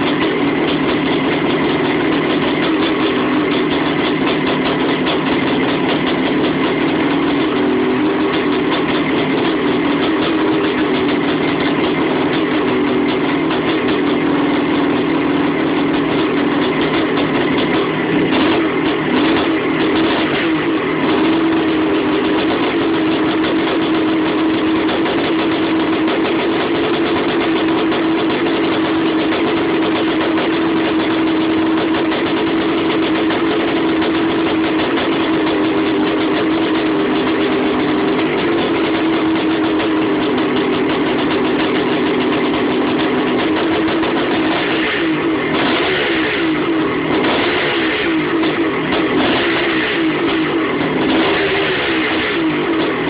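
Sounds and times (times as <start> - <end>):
two-stroke engine running: 0.0 - 53.0.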